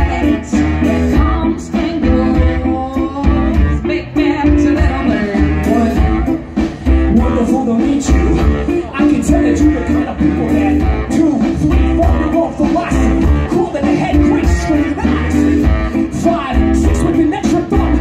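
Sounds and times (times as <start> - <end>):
brass band playing funk: 0.0 - 18.0
drum kit beat: 0.0 - 18.0
person singing: 0.0 - 18.0.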